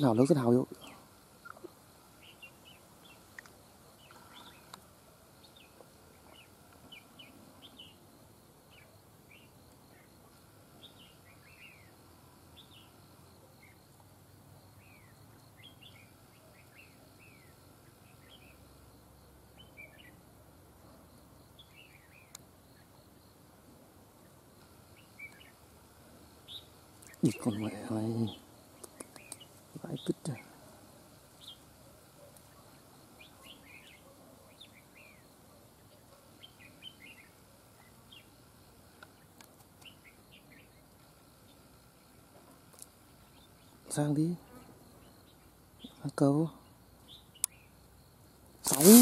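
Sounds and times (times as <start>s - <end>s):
birds chirping faintly: 0.0s - 49.0s.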